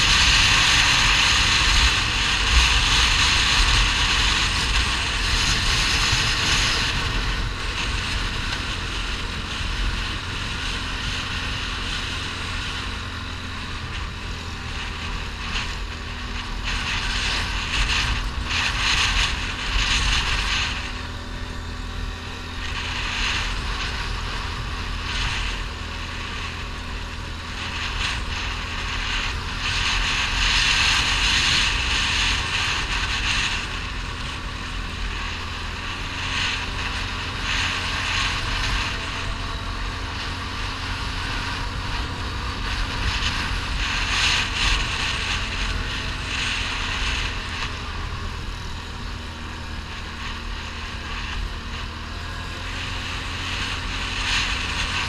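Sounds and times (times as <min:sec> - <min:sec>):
quad bike engine running: 0:00.0 - 0:55.0
wind: 0:00.0 - 0:55.0.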